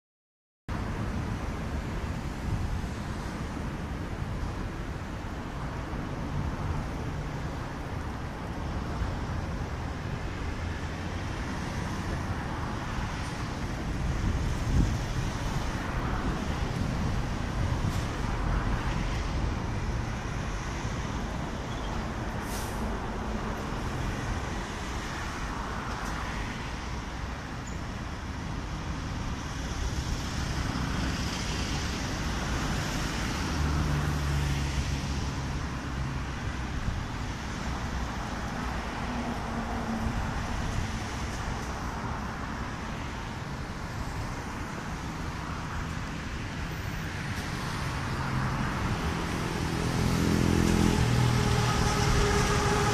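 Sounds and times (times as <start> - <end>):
road traffic engine hum: 0.7 - 52.9.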